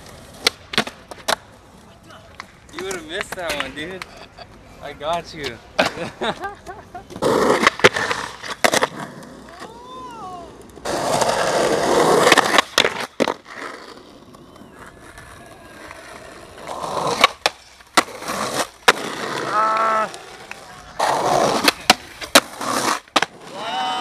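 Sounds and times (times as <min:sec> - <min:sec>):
skateboard clacking on ground: 0:00.0 - 0:06.1, 0:07.0 - 0:23.6
skateboard wheels rolling: 0:00.0 - 0:24.0.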